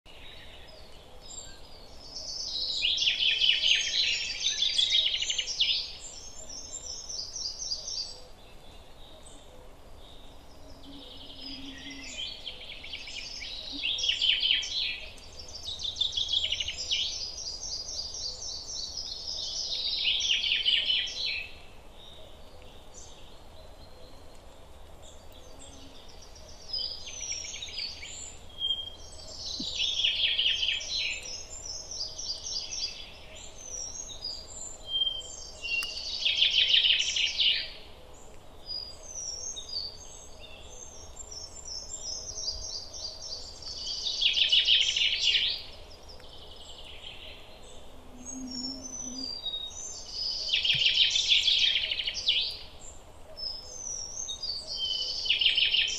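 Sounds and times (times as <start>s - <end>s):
faint background hiss: 0.1s - 55.9s
songbirds trilling and warbling: 0.1s - 55.9s.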